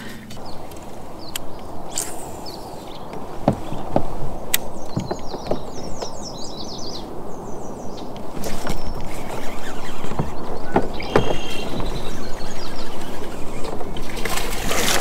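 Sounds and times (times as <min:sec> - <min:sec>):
bird chirping: 0:00.3 - 0:14.5
water rushing around kayak: 0:00.4 - 0:15.0.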